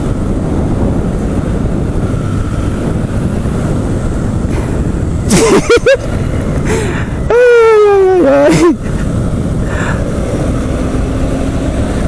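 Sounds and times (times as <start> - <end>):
motorcycle riding: 0.0 - 12.0
wind on microphone: 0.0 - 12.0.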